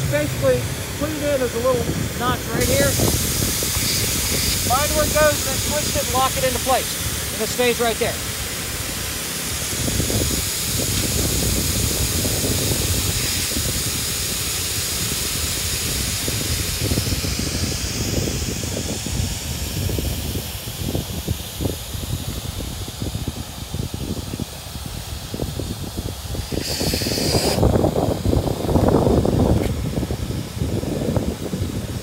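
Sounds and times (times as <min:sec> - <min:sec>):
electric inflation blower: 0:00.0 - 0:32.0.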